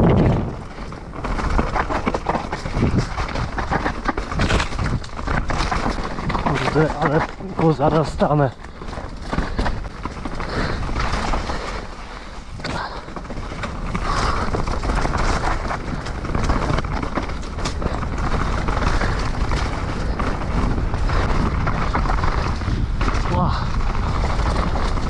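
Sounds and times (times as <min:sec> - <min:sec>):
bike rattles and knocks: 0:00.0 - 0:25.0
bike tyres rumbling: 0:00.0 - 0:25.0
wind on microphone: 0:00.0 - 0:25.0.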